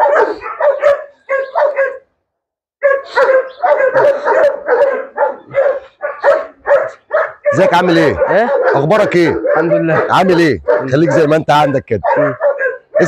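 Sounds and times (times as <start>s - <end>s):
dog barking rapidly: 0.0s - 2.1s, 2.8s - 13.0s.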